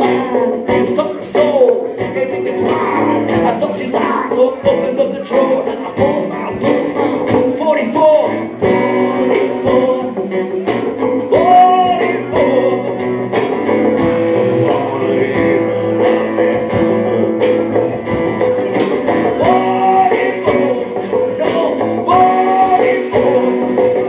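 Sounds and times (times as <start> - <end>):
bass guitar: 0.0 - 24.0
drum kit steady beat: 0.0 - 24.0
electric guitar: 0.0 - 24.0.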